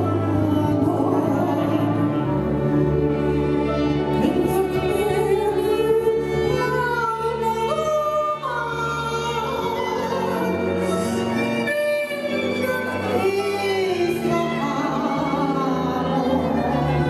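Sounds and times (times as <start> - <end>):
woman singing: 0.0 - 2.7, 4.0 - 17.0
double bass: 0.0 - 17.0
violin: 0.0 - 17.0.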